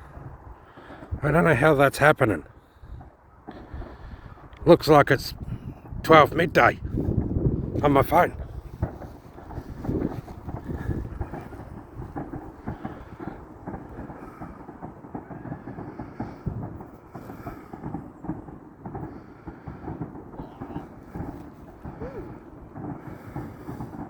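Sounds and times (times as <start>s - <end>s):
distant fireworks bangs and crackles: 0.0s - 24.0s.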